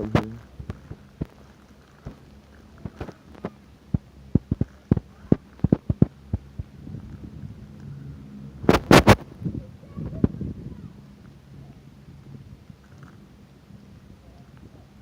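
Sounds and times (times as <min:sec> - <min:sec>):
low steady machinery hum: 0:00.0 - 0:15.0.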